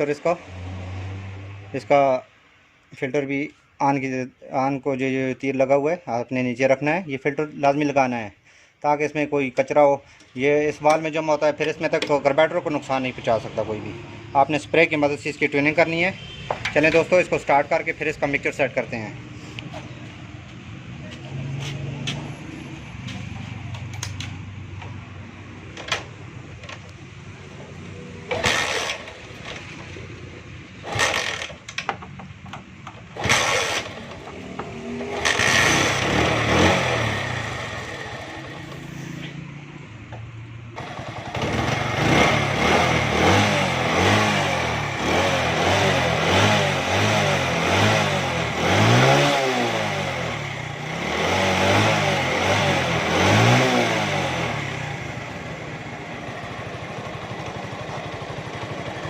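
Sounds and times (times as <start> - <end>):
motorcycle engine starting and revving: 0.0 - 2.0, 10.2 - 59.0.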